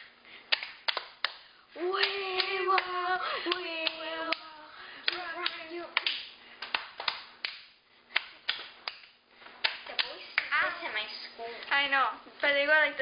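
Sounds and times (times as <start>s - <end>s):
hand clapping: 0.0s - 10.6s.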